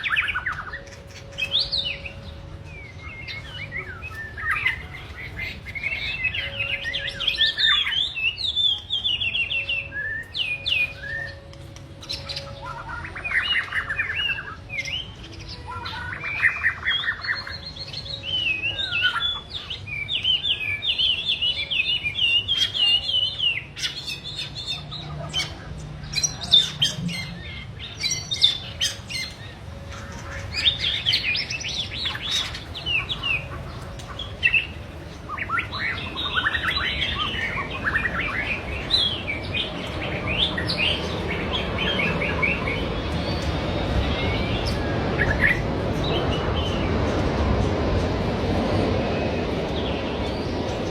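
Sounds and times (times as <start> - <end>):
songbird singing: 0.0 - 50.9.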